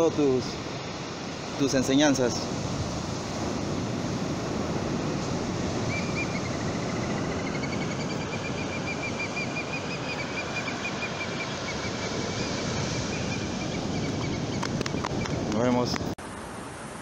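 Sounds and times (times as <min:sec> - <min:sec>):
surf rushing: 0:00.0 - 0:17.0
wind: 0:00.0 - 0:17.0.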